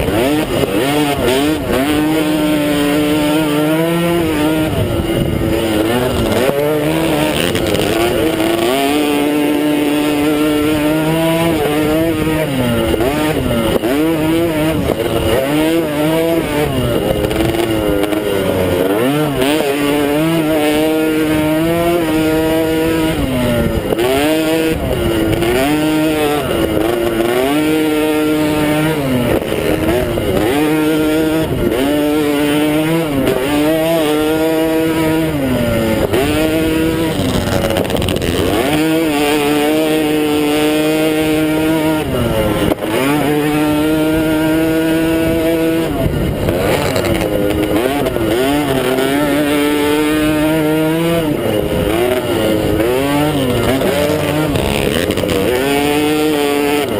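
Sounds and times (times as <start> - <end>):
mini quad engine revving: 0.0 - 56.9.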